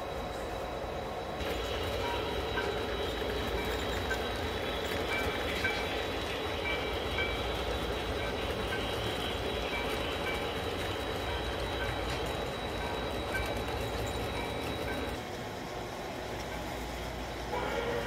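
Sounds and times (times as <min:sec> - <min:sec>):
model train rolling rumble: 0:00.0 - 0:18.0
wheels squeaking on rails: 0:00.0 - 0:18.0.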